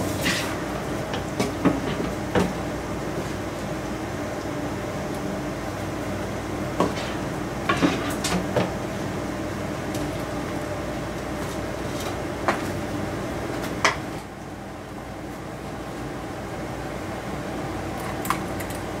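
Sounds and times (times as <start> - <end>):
kitchen fan hum: 0.0 - 19.0.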